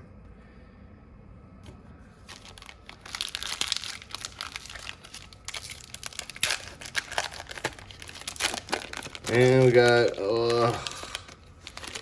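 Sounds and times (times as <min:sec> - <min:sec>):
plastic packaging crinkling: 0:02.2 - 0:12.0.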